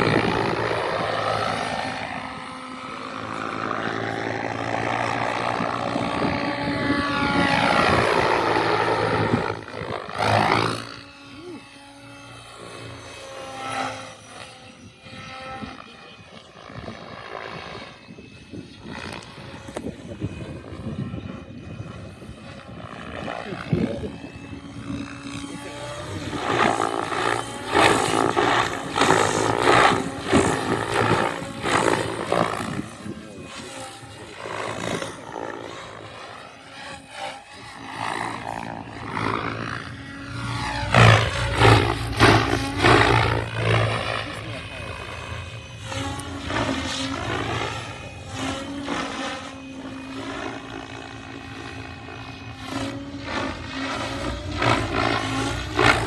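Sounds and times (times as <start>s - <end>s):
model helicopter engine and rotor whine: 0.0s - 56.0s.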